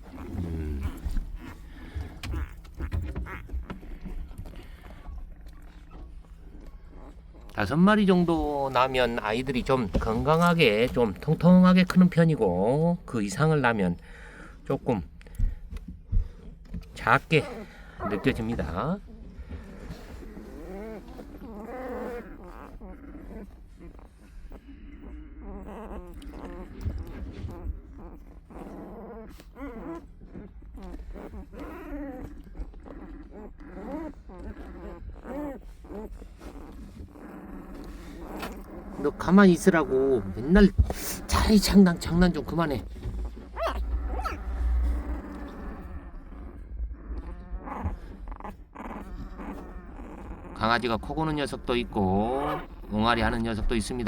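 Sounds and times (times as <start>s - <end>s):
puppies whimpering: 0.0s - 12.7s, 14.1s - 54.0s.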